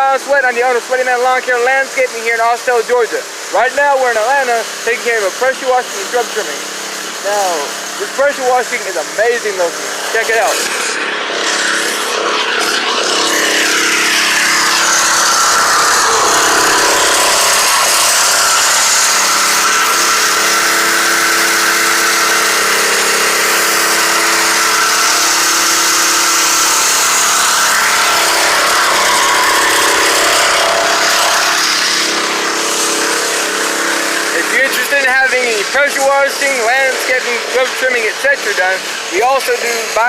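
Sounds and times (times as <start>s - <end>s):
high-pressure water spray hissing: 0.0s - 40.0s
pressure washer engine running: 0.0s - 40.0s.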